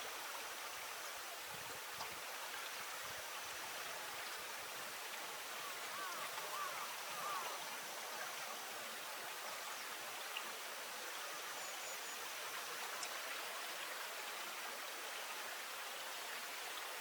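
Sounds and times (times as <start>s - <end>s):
flowing water hiss: 0.0s - 17.0s.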